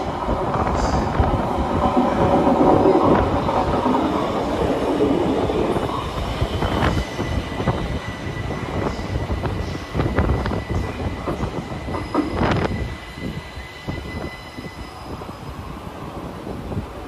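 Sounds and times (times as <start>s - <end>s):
train rail rumble: 0.0s - 17.0s.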